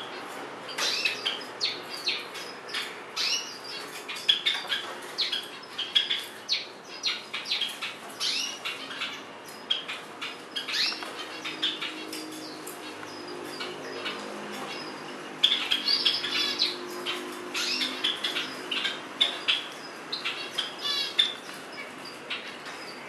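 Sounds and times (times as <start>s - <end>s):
high bird chirps: 0.0s - 23.0s.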